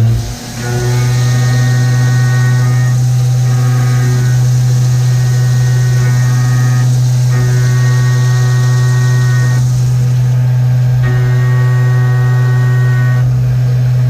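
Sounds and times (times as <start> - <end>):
milling machine spindle tone: 0.0 - 14.0.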